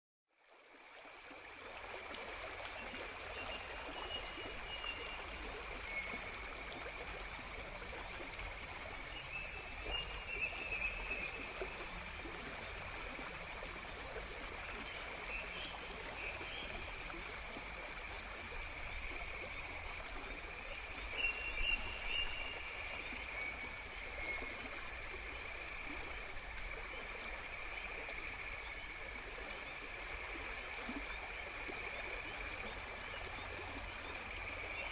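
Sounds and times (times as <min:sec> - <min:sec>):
stream running: 0:00.4 - 0:34.9.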